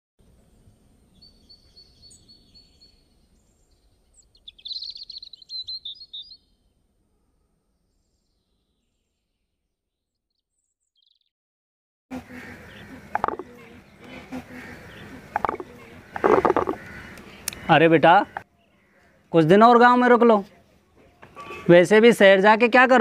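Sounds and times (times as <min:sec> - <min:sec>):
birds chirping trills: 0:00.4 - 0:11.3, 0:12.1 - 0:23.0.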